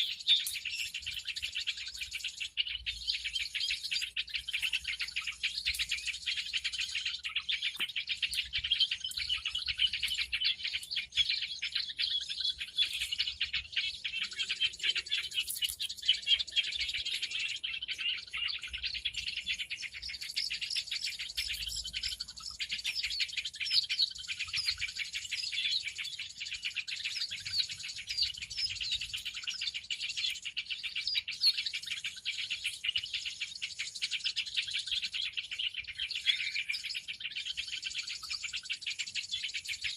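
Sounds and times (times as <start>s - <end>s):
flock of small birds chattering: 0.0s - 39.9s.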